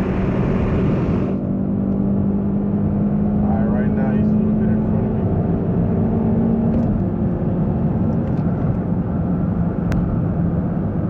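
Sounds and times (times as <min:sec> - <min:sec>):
car engine droning at speed: 0:00.0 - 0:11.0
road rumble: 0:00.0 - 0:11.0.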